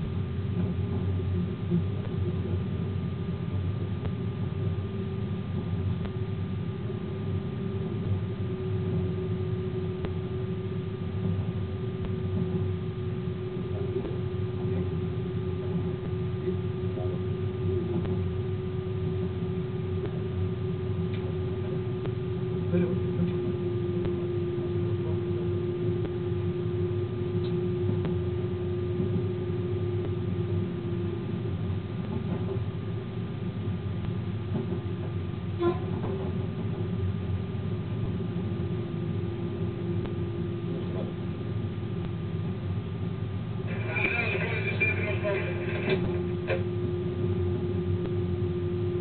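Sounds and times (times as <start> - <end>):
constant droning tone: 0.0 - 49.0
locomotive running noise: 0.0 - 49.0
train rumbling on track: 0.0 - 49.0.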